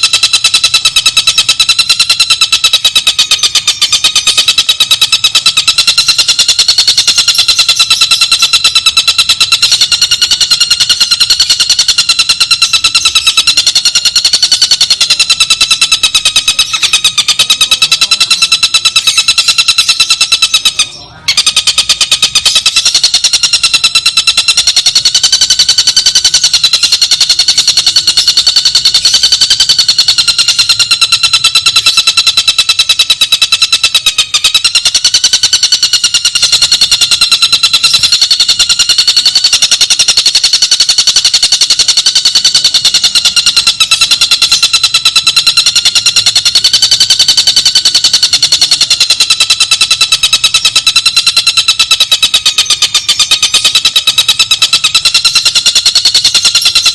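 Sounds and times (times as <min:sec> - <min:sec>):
kingfisher fast trill: 0:00.0 - 0:56.9.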